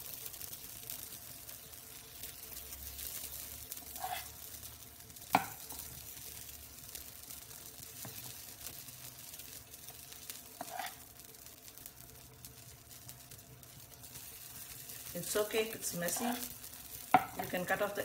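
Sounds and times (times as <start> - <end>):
batter sizzling in pan: 0.0 - 18.0.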